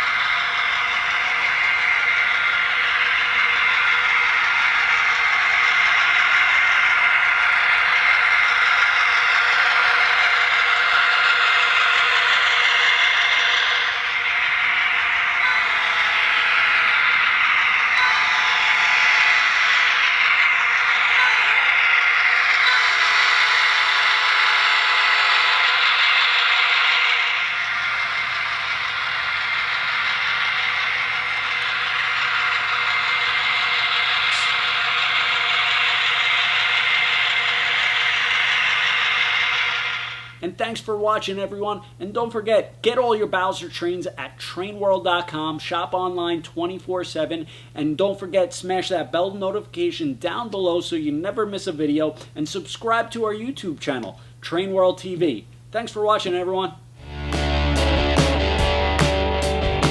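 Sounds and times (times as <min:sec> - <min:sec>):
model locomotive diesel engine sound: 0:00.0 - 0:59.9.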